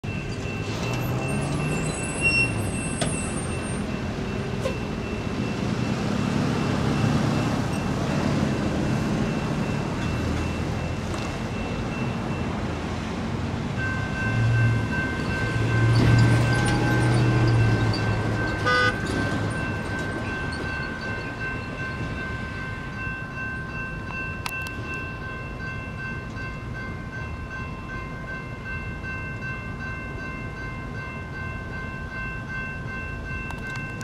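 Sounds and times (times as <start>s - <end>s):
railroad crossing bells ringing: 0.0s - 34.0s
road traffic passing: 0.0s - 34.0s.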